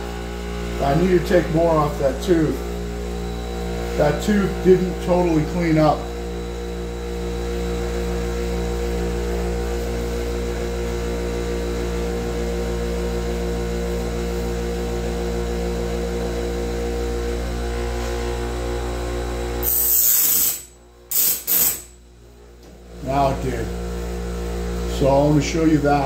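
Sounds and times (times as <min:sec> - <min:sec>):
grinder motor humming: 0:00.0 - 0:11.4, 0:14.6 - 0:26.0.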